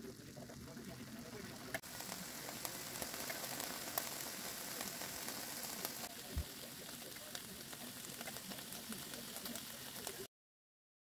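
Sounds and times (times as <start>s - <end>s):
frying pops and crackles: 0.0s - 10.3s
meat and potatoes sizzling in skillet: 0.0s - 10.3s.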